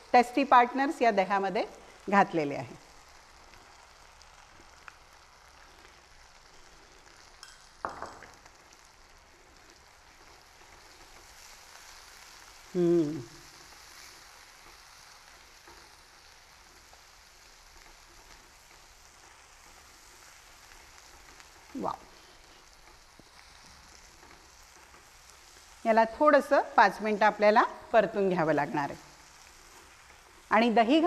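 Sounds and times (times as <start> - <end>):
paste sizzling in hot oil: 0.0 - 31.0.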